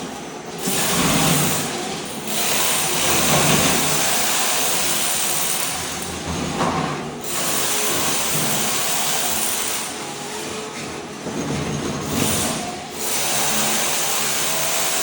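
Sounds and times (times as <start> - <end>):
floor scraper grinding concrete: 0.0 - 15.0.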